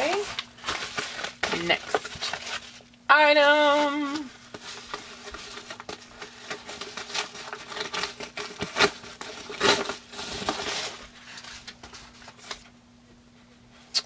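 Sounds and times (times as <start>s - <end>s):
loud packaging crackles: 0.0s - 2.9s, 4.0s - 12.7s
packaging rustling and crinkling: 0.0s - 3.0s, 3.6s - 12.7s
faint steady hum: 0.0s - 14.0s.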